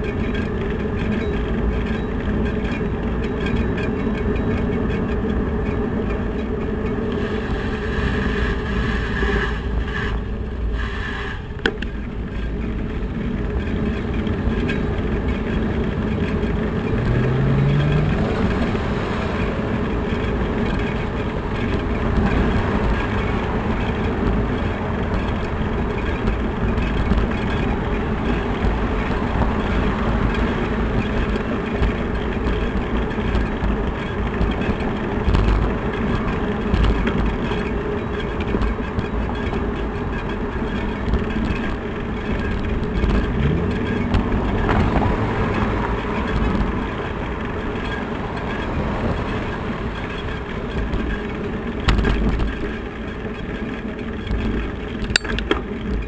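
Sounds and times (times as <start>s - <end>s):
bicycle rattling over rough pavement: 0.0s - 56.0s.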